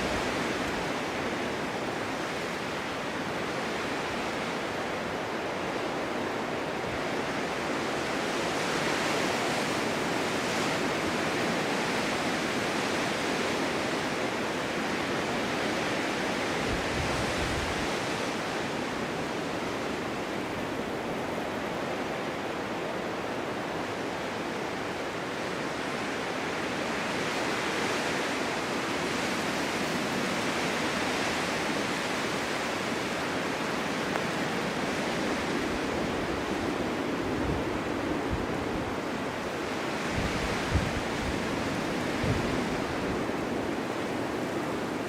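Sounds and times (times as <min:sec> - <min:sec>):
snowstorm wind blowing: 0:00.0 - 0:45.0.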